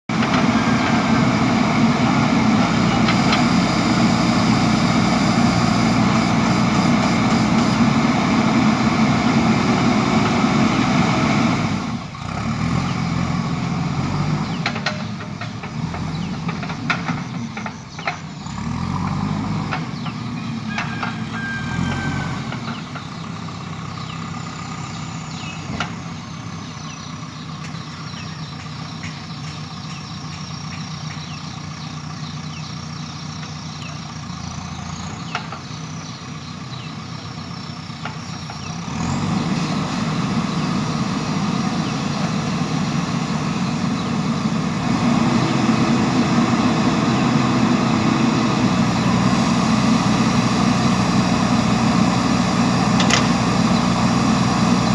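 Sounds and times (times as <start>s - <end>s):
diesel engine running: 0.1s - 54.9s.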